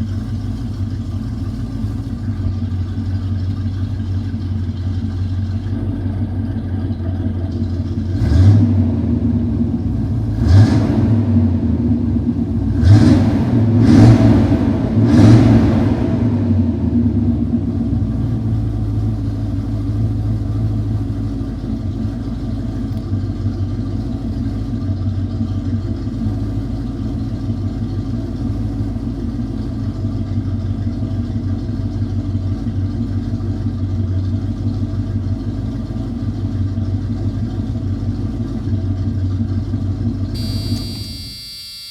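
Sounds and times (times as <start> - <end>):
car engine idling: 0.0 - 41.4.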